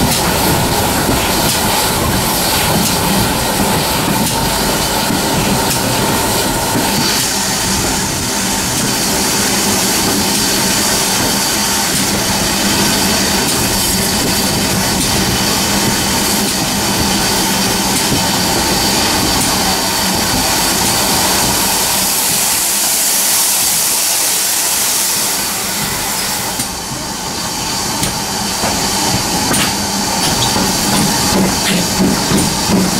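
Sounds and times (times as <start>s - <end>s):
steam hiss: 0.0s - 32.9s
train rumbling on rails: 0.0s - 32.9s.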